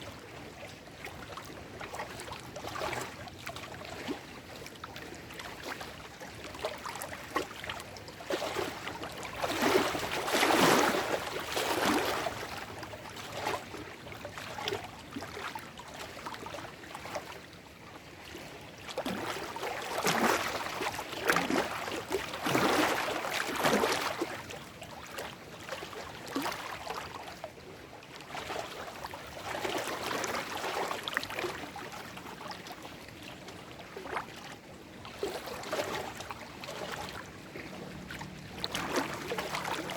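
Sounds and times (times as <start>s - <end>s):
lake waves lapping on rocks: 0.4s - 14.8s, 18.2s - 39.9s.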